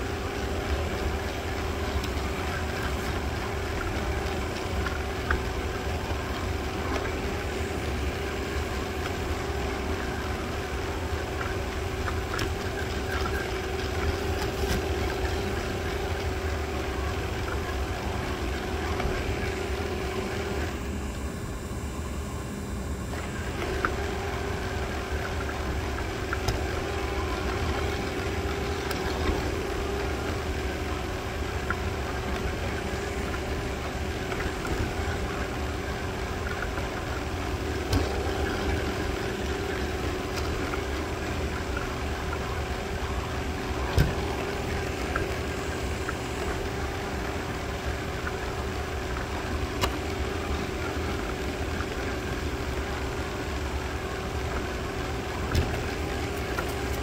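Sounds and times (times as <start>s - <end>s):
robot vacuum motor hum: 0.0s - 57.0s.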